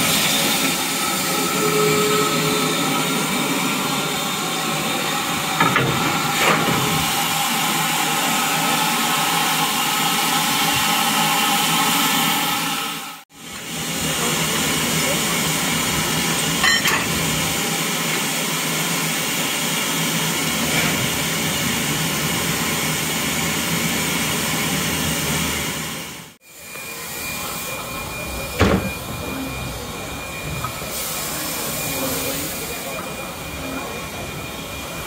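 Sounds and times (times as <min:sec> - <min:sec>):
train running: 0:00.0 - 0:35.0.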